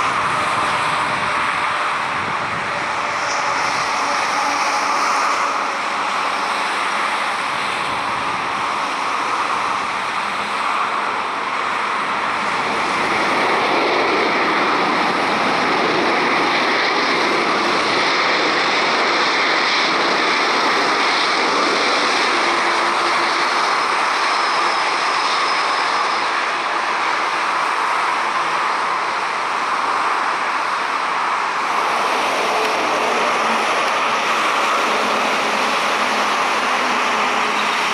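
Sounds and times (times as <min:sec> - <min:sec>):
jet engines roaring: 0:00.0 - 0:37.9.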